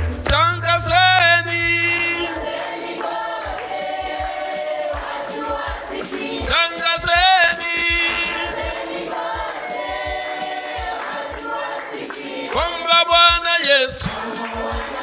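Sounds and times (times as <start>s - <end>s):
choir singing long notes: 0.0s - 13.1s, 14.0s - 15.0s
church band playing: 0.0s - 15.0s
lead voice singing: 0.0s - 15.0s
steady drum beats: 0.0s - 15.0s
tambourine: 0.0s - 15.0s.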